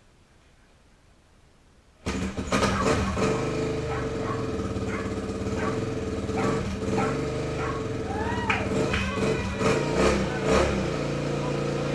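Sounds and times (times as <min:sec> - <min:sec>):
dirt bike engine starting and idling: 0:02.0 - 0:11.9.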